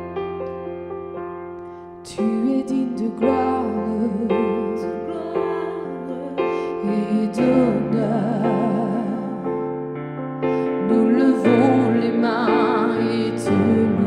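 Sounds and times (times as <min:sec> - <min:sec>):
electric keyboard chords: 0:00.0 - 0:14.0.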